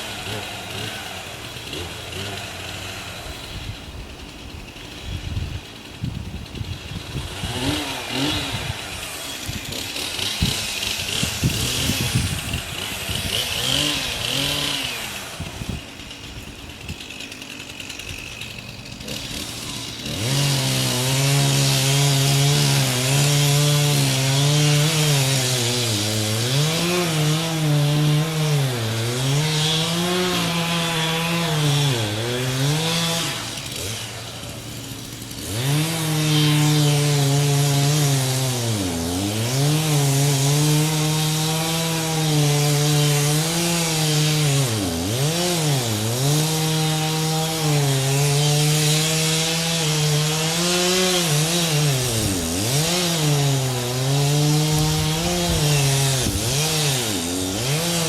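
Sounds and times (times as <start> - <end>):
chainsaw cutting: 0.0 - 58.0.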